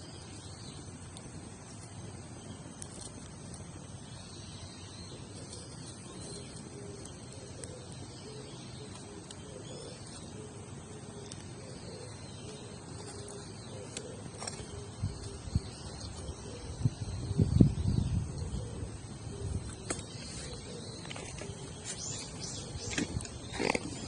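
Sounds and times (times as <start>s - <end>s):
faint bird calls: 0.0s - 24.0s.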